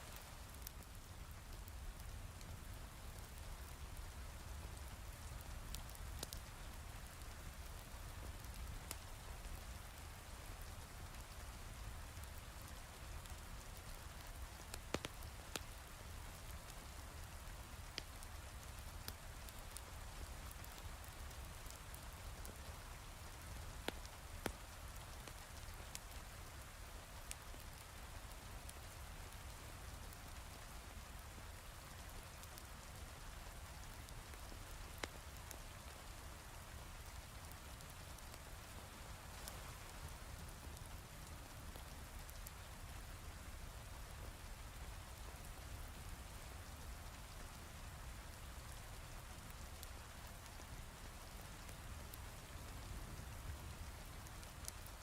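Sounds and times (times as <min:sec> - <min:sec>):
wood fire crackling pops: 0:00.1 - 0:29.5, 0:31.1 - 0:35.9, 0:36.6 - 0:43.0, 0:49.4 - 0:55.0.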